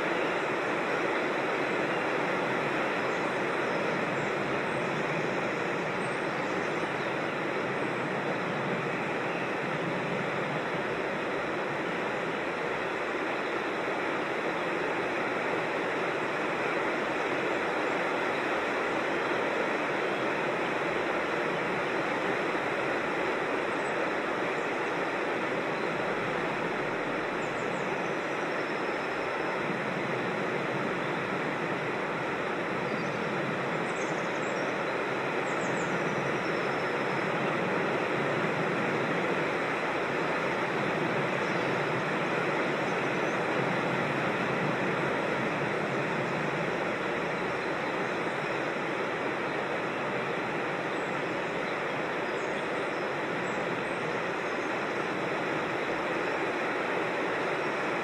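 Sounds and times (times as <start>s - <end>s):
creek water rushing: 0.0s - 58.0s.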